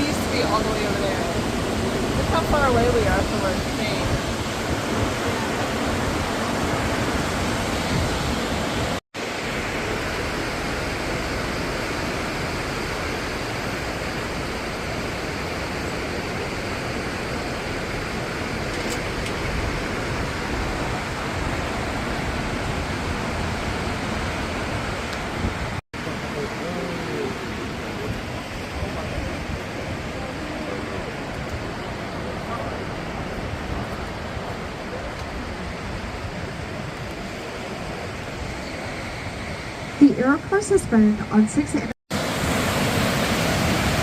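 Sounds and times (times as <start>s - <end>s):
rushing roar of river rapids: 0.0s - 40.1s, 42.1s - 44.0s.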